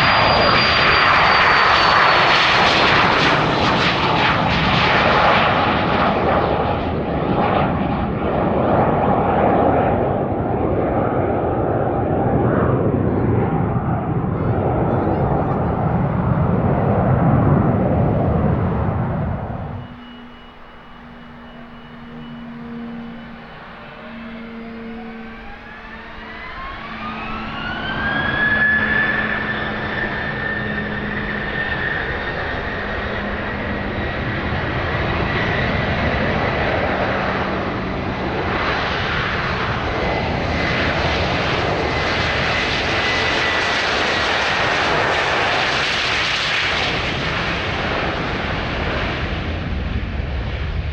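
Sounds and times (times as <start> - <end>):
jet turbine whine: 0.0 - 6.1, 11.7 - 49.6
jet engine roar: 0.0 - 6.3, 12.4 - 49.6.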